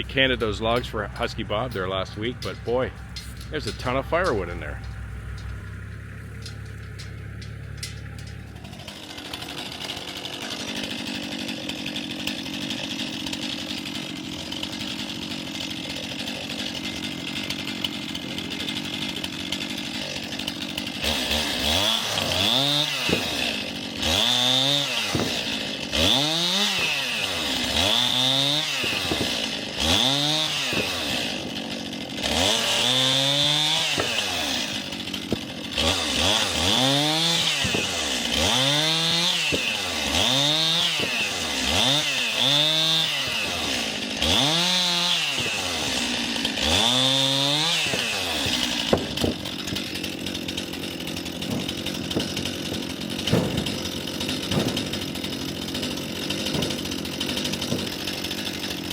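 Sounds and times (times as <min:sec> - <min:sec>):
steady engine drone: 0:00.0 - 0:10.0, 0:21.0 - 0:58.9
chainsaw revving: 0:00.0 - 0:58.9.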